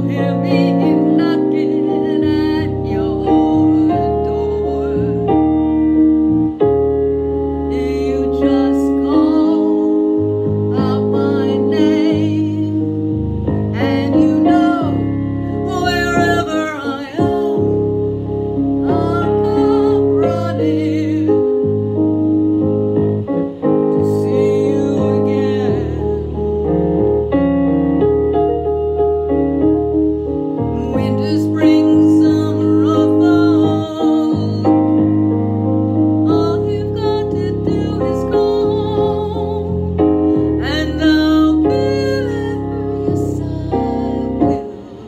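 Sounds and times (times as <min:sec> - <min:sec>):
woman singing with vibrato: 0:00.0 - 0:06.0, 0:07.6 - 0:22.1, 0:23.6 - 0:27.1, 0:30.6 - 0:35.2, 0:36.2 - 0:45.0
piano accompaniment: 0:00.0 - 0:45.0.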